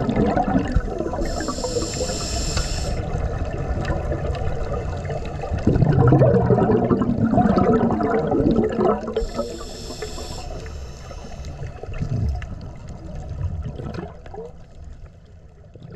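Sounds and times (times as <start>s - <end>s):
underwater bubbles gurgling: 0.0s - 15.9s.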